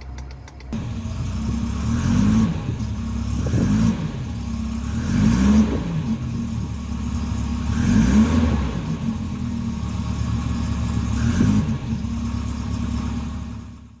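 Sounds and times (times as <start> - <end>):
engine throttle blips: 0.0 - 13.9
car engine idling: 0.0 - 14.0.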